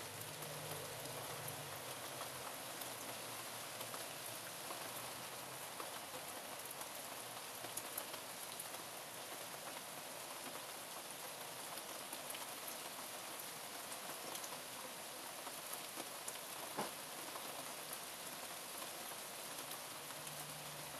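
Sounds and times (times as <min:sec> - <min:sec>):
rain on lawn and leaves: 0:00.0 - 0:20.9.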